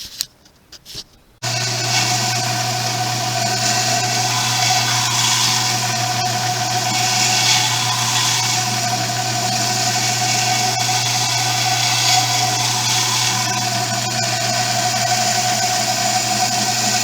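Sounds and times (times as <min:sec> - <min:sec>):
motor humming and whining: 0:01.4 - 0:17.0.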